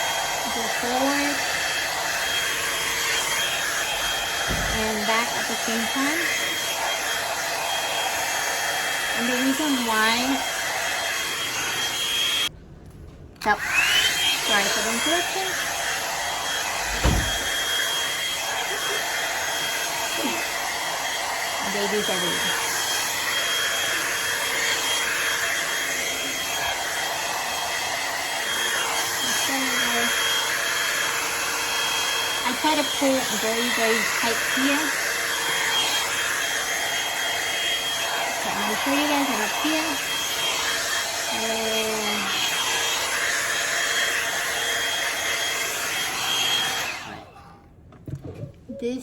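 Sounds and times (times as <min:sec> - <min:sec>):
blow-dryer whining: 0:00.0 - 0:12.6, 0:13.4 - 0:49.0.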